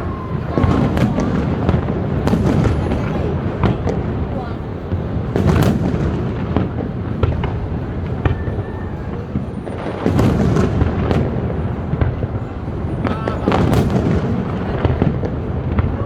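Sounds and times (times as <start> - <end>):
fireworks booming and cracking: 0.0 - 16.0
low rumble of echoing reports: 0.0 - 16.0.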